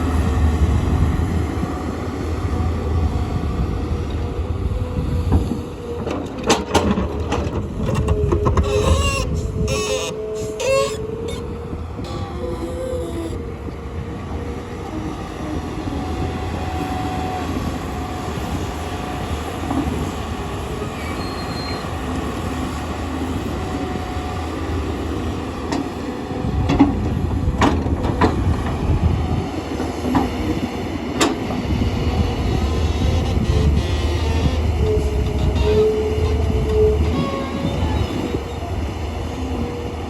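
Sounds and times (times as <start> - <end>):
diesel engine drone: 0.0 - 40.0.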